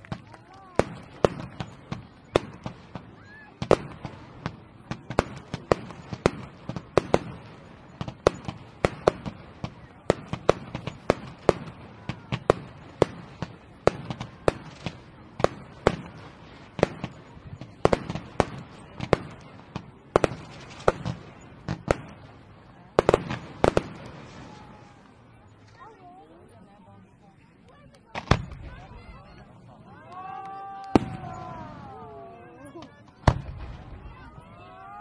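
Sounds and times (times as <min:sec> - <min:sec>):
fireworks bangs with low rumble: 0:00.0 - 0:25.6, 0:28.1 - 0:32.2, 0:32.8 - 0:34.9.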